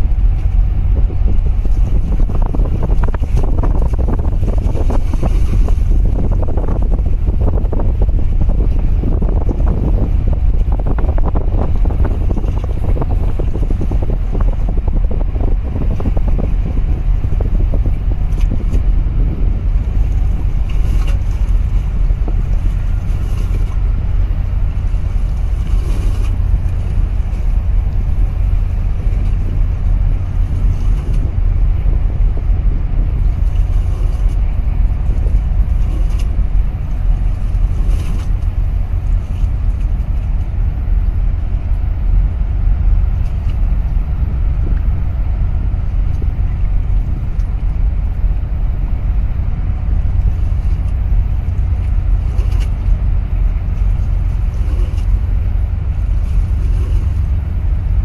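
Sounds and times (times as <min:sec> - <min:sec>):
boat engine rumbling: 0:00.0 - 0:58.0
water washing past hull: 0:00.0 - 0:58.0
wind buffeting microphone: 0:00.0 - 0:58.0.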